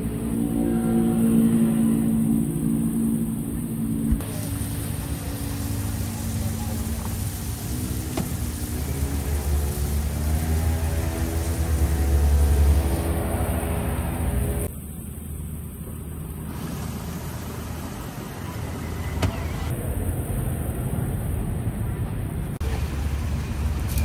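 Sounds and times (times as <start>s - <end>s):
road traffic rumble: 0.0s - 24.0s
vehicle engine running: 0.0s - 24.0s.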